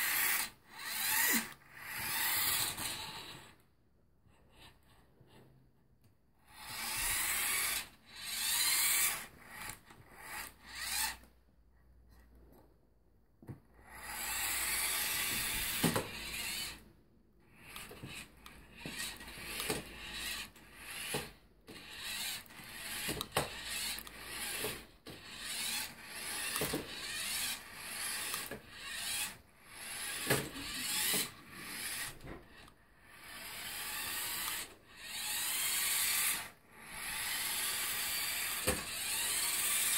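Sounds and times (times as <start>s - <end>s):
toy car motor whirring: 0.0s - 3.6s, 4.5s - 5.4s, 6.4s - 11.4s, 13.7s - 39.9s.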